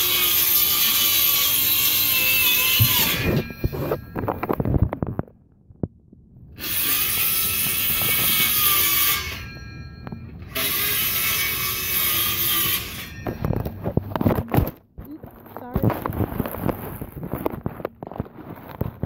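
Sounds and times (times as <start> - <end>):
scratchy rasping: 0.0 - 4.9, 6.6 - 9.6, 10.5 - 19.0.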